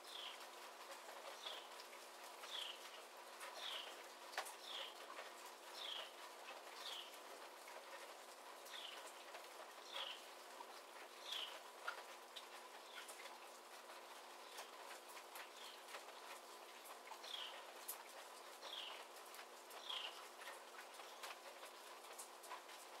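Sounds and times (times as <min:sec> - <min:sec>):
soft rain pattering: 0:00.0 - 0:23.0.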